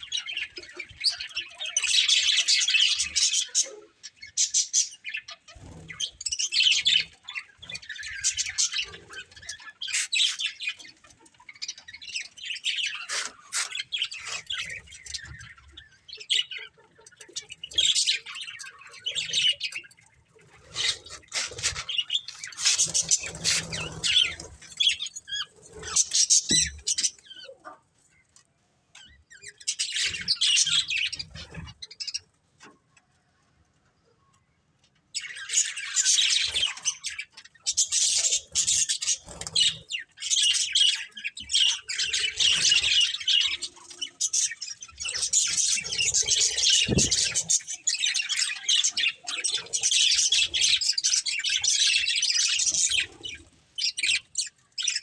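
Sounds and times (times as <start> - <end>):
budgerigars chirping: 0.0 - 27.8, 35.2 - 55.0.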